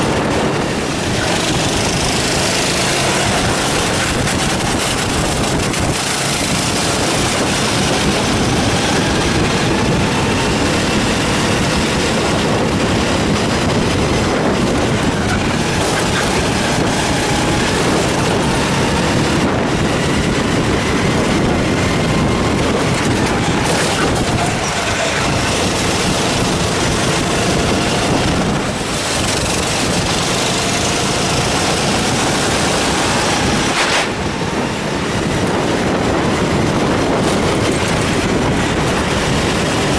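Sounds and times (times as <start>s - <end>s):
kart engine at full throttle: 0.0s - 39.9s
wind rush over microphone: 0.0s - 39.9s.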